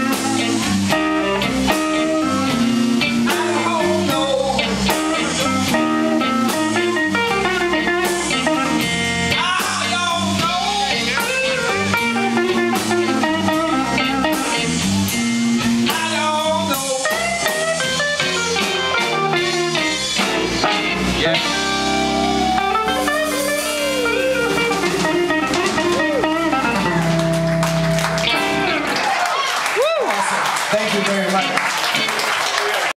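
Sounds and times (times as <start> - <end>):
blues band playing: 0.0 - 32.9.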